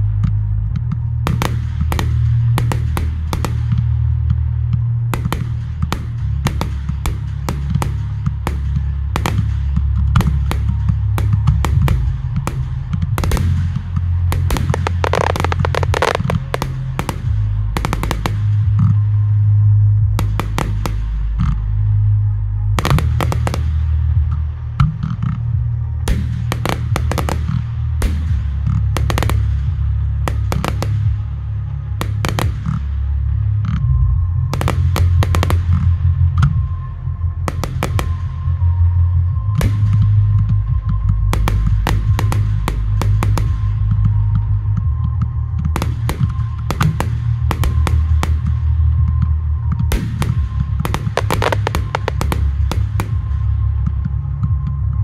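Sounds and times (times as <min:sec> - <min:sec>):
music with heavy bass: 0:00.0 - 0:55.0
fireworks bangs and crackling: 0:00.2 - 0:19.2, 0:20.1 - 0:21.7, 0:22.8 - 0:33.8, 0:34.4 - 0:36.8, 0:37.4 - 0:38.7, 0:39.5 - 0:54.6.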